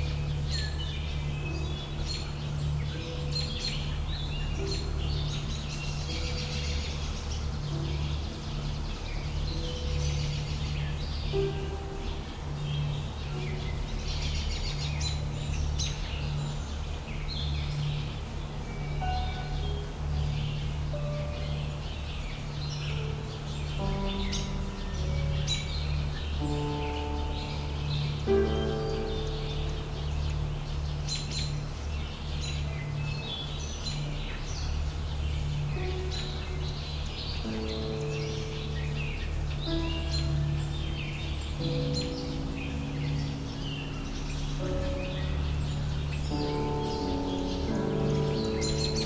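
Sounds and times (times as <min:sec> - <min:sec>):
birds chirping and singing: 0:00.0 - 0:49.0
low pulsing hum: 0:00.0 - 0:49.0
low steady drone: 0:00.0 - 0:49.0.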